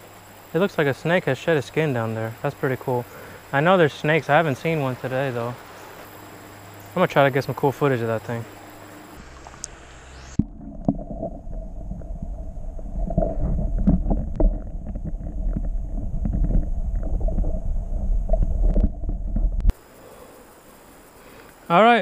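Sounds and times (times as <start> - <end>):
underwater creek gurgling: 0.0 - 21.7.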